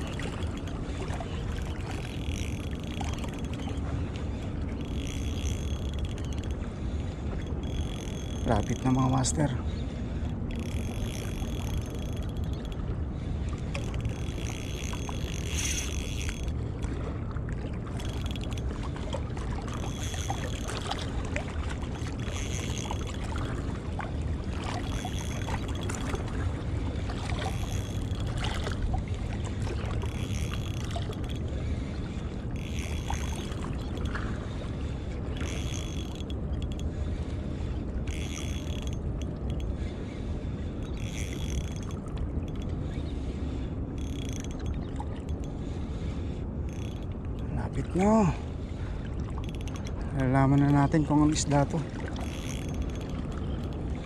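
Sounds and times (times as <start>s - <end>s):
fishing reel whirring: 0.0s - 6.7s, 7.4s - 9.6s, 10.2s - 16.9s, 17.7s - 18.9s, 19.5s - 26.3s, 27.3s - 37.0s, 38.0s - 40.1s, 40.7s - 43.2s, 43.8s - 48.3s, 49.3s - 54.0s.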